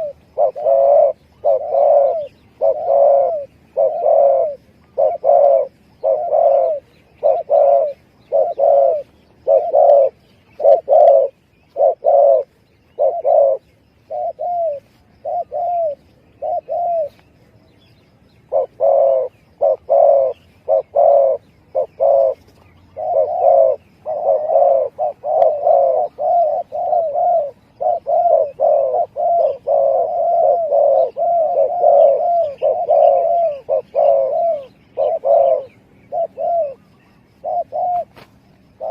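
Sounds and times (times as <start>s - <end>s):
dove cooing: 0.0s - 17.5s, 18.2s - 38.9s.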